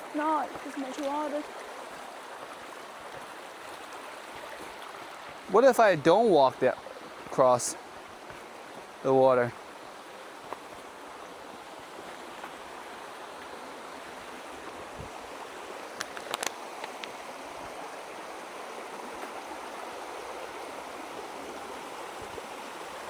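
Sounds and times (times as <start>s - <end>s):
creek water rushing over rocks: 0.0s - 23.0s.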